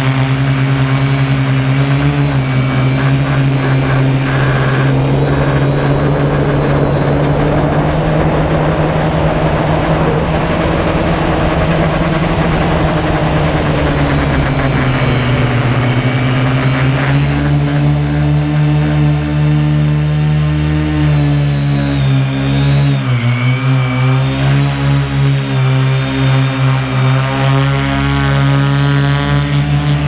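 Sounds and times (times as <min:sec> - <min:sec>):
drone propellers buzzing: 0:00.0 - 0:30.0.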